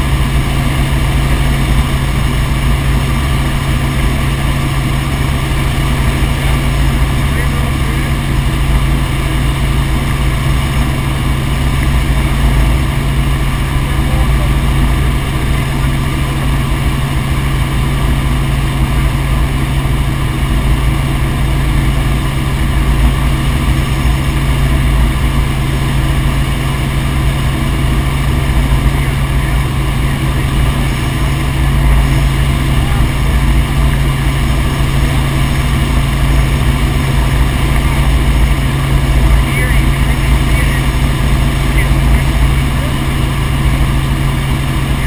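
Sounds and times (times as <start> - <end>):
helicopter engine and rotor drone: 0.0 - 45.0.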